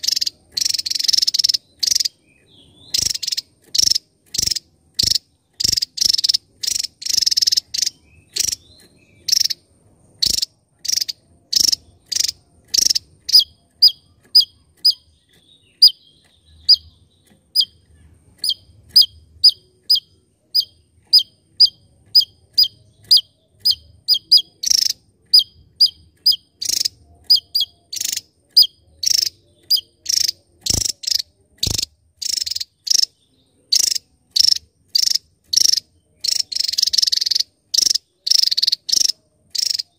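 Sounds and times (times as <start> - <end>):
bird singing sharp notes: 0.0 - 39.9.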